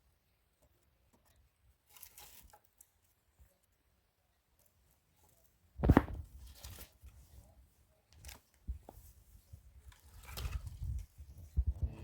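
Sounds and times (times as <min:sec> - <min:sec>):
brushwood rustling and crackling: 0:00.6 - 0:03.8, 0:04.6 - 0:12.0.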